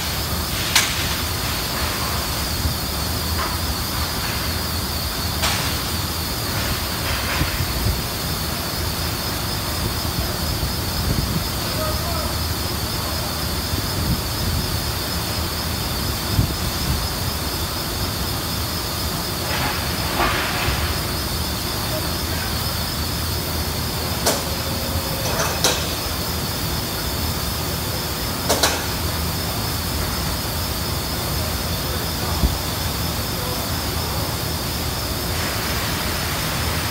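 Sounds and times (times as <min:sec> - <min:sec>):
constant high whine: 0:00.0 - 0:36.9
steady factory rumble: 0:00.0 - 0:36.9.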